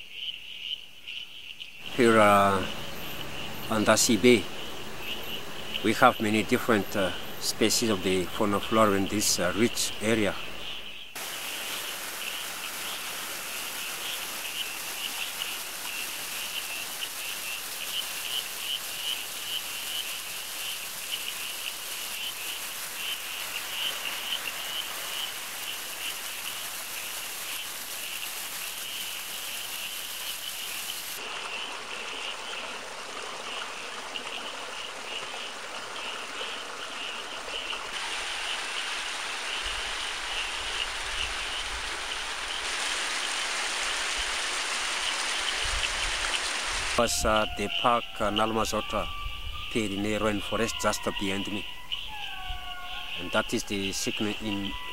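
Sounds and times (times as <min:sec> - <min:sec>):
frogs calling in a pulsing trill: 0:00.0 - 0:38.7, 0:47.0 - 0:54.9
running water hiss: 0:01.7 - 0:54.9.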